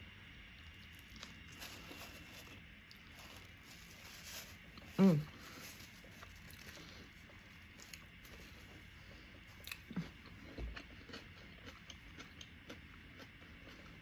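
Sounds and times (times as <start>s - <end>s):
person chewing: 0.6s - 14.0s.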